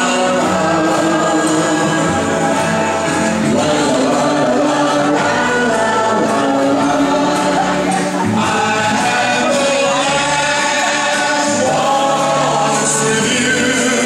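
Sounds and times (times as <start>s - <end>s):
waltz music with singing: 0.0s - 14.0s.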